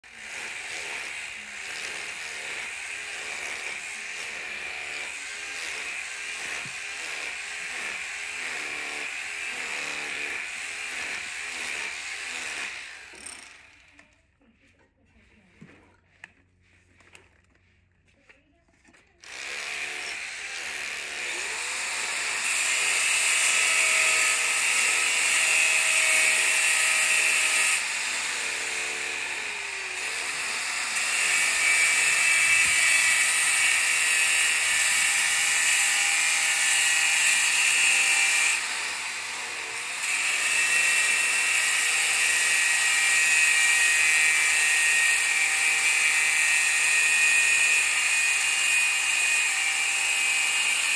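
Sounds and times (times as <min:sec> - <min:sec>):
power tool whining: 0:00.0 - 0:14.1, 0:19.2 - 0:50.9.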